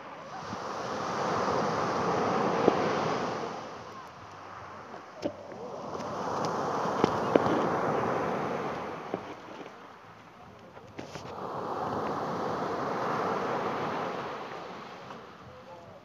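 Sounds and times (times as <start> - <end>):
waves breaking on pebble shore: 0.2 - 10.2, 10.8 - 15.4.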